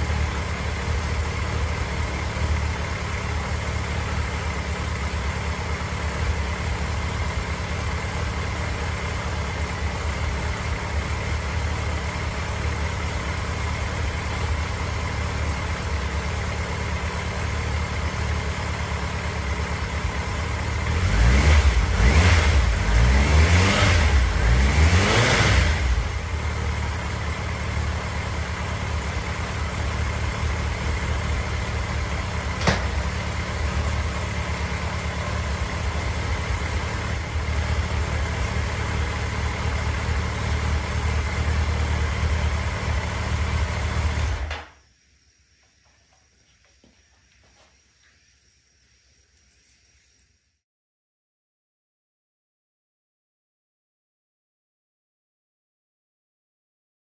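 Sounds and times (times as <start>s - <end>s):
motorcycle engine idling and revving: 0.0s - 50.2s.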